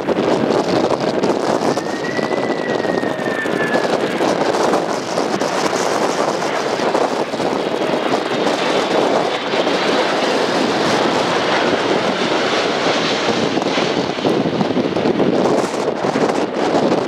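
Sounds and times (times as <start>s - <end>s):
jet engines rumbling overhead: 0.0s - 17.0s
jet fan whine: 0.0s - 17.0s.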